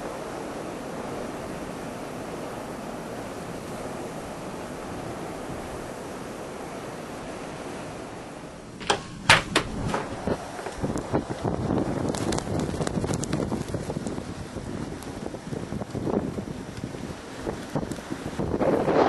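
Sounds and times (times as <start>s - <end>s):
snowstorm wind rushing: 0.0s - 19.0s.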